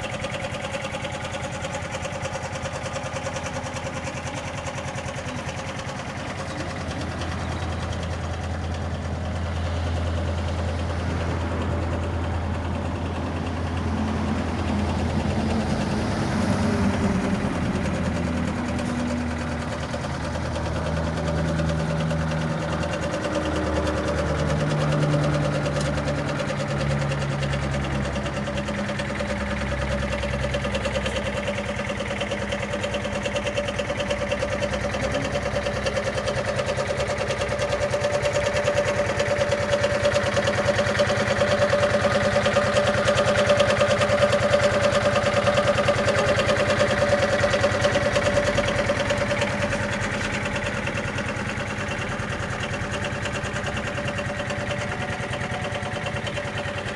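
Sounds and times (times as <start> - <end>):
scooter engine running: 0.0 - 56.9.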